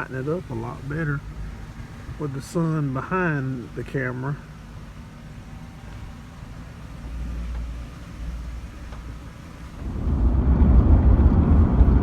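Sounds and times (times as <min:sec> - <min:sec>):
vehicle driving rumble: 0:00.0 - 0:12.0.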